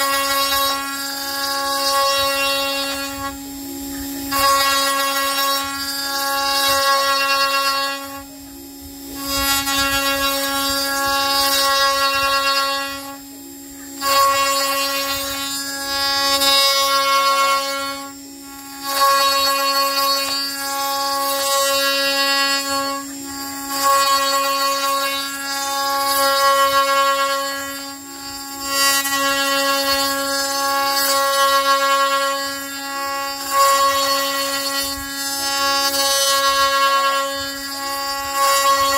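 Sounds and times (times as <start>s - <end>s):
router bit milling wood: 0.0s - 38.9s.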